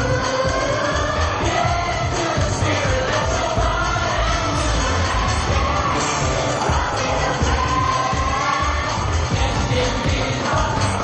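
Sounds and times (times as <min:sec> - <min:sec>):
choir singing over backing track: 0:00.0 - 0:11.0.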